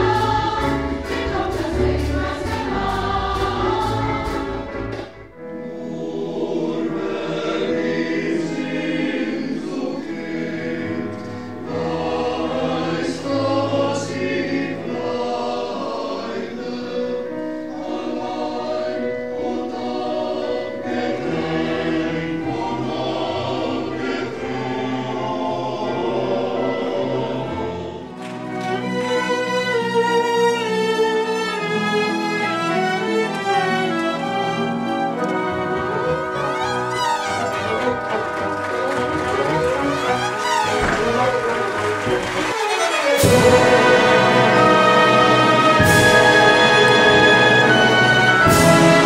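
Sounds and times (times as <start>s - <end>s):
mixed choir singing in harmony: 0.0s - 49.0s.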